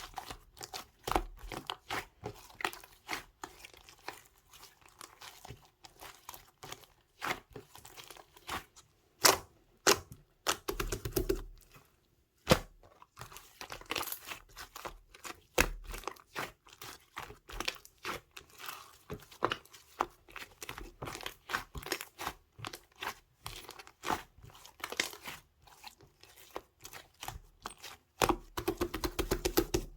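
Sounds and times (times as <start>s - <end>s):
slime squishing with sticky pops: 0.0s - 11.7s, 12.4s - 29.9s.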